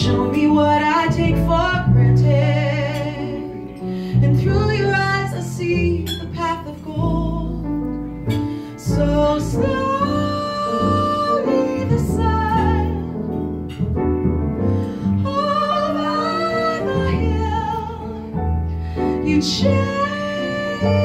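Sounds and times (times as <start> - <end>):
woman singing ballad: 0.0 - 13.4, 14.9 - 21.0
piano accompaniment: 0.0 - 21.0.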